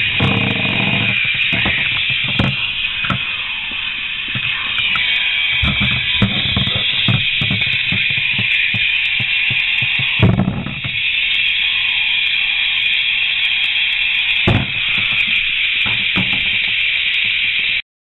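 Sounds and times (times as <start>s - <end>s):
spinning tops grinding whir: 0.0s - 17.8s.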